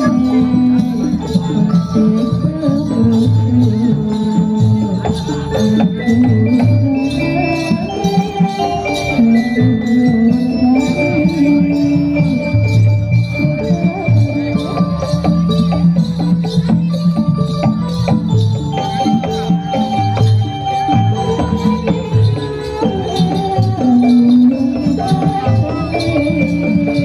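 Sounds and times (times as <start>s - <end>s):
metallophones and gongs ringing: 0.0s - 27.0s.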